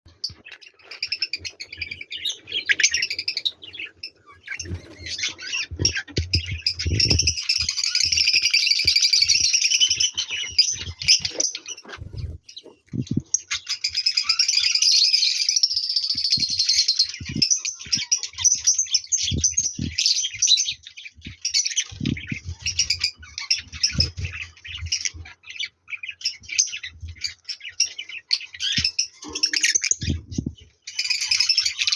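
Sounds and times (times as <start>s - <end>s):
budgerigars chirping and warbling: 0.1s - 31.9s.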